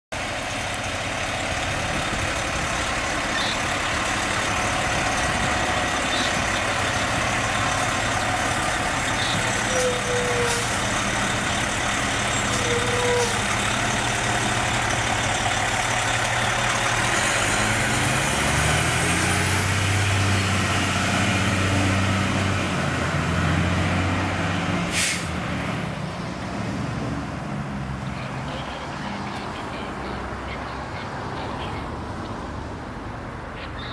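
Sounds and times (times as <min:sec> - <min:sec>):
diesel engine running: 0:00.1 - 0:32.2.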